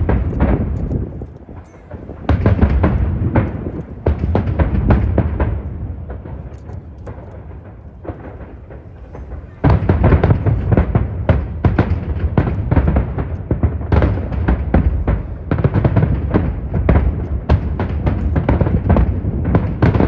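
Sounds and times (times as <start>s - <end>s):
fireworks bursting and crackling: 0.0s - 20.0s
wind rumble on microphone: 0.0s - 20.0s.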